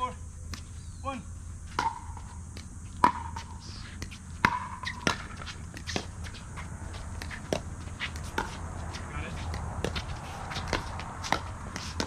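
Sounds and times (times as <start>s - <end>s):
shoes shuffling on hard court: 1.6s - 12.0s.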